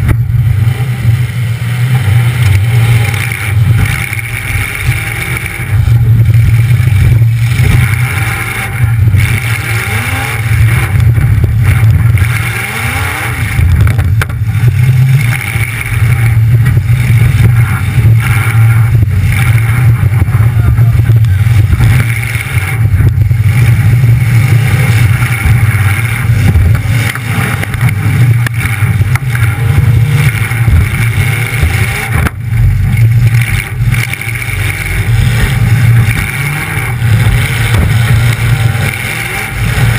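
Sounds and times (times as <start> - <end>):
loud car engine revving: 0.0 - 39.9.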